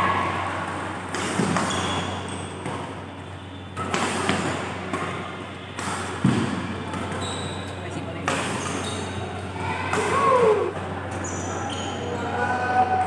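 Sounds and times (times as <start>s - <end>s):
rackets hitting shuttlecock with echo: 0.1s - 11.3s.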